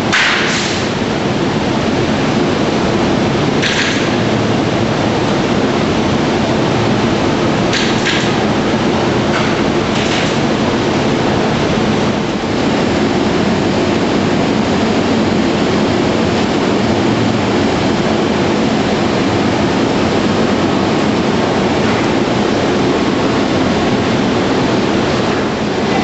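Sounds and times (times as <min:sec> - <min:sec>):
hydraulic press running: 0:00.0 - 0:26.0.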